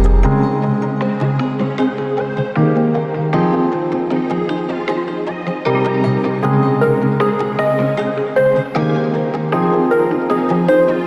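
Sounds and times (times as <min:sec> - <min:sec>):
instrumental music with light beat: 0:00.0 - 0:11.0.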